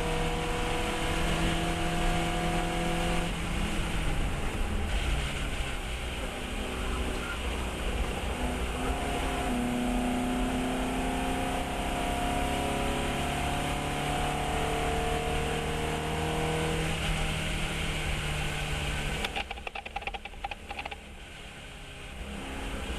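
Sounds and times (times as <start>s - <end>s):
road and wind noise: 0.0s - 22.9s.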